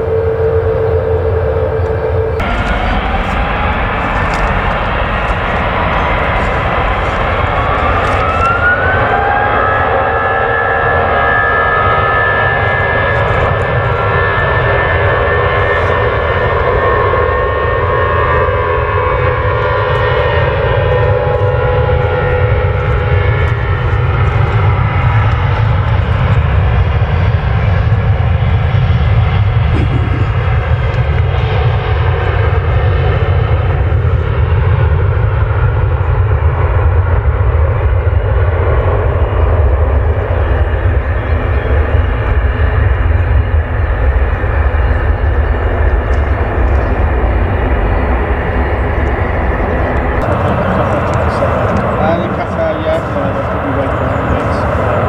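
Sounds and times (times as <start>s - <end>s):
high whine of steady tones: 0.0s - 55.0s
jet engines at takeoff power: 0.0s - 55.0s.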